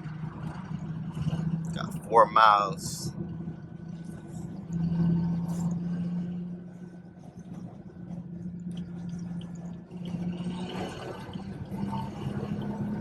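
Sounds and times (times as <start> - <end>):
engine drone inside car: 0.0 - 13.0
road noise: 0.0 - 13.0.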